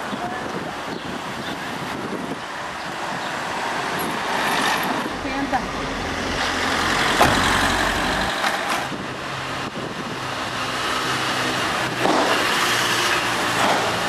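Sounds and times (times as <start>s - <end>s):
car traffic: 0.0s - 14.0s.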